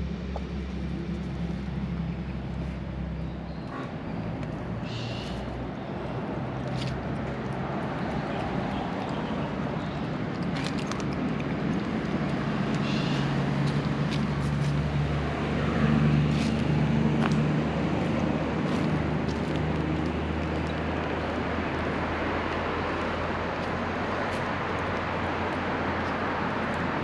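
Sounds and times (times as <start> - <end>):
engine droning: 0.0 - 27.0
outdoor noise haze: 0.0 - 27.0.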